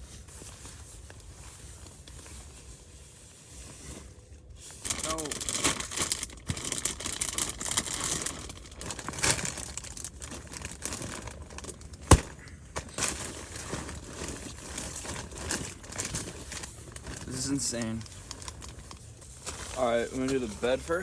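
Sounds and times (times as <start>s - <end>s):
camping gear rustling: 0.0s - 21.0s.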